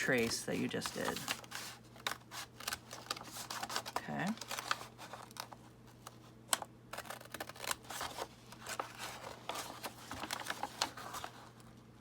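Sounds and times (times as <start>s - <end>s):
paper crackling and rustling: 0.0s - 11.8s.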